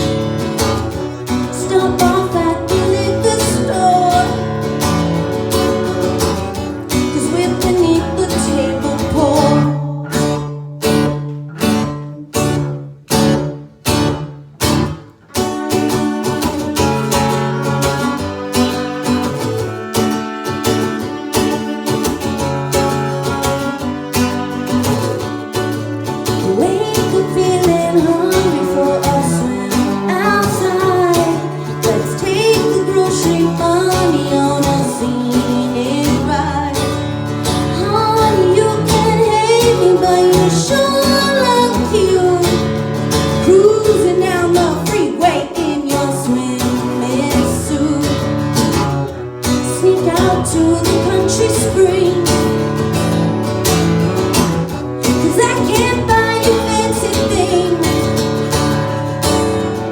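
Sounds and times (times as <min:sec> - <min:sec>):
person singing: 0:00.0 - 0:10.6, 0:15.6 - 0:53.1, 0:55.0 - 0:58.9
guitar playing: 0:00.0 - 0:59.9.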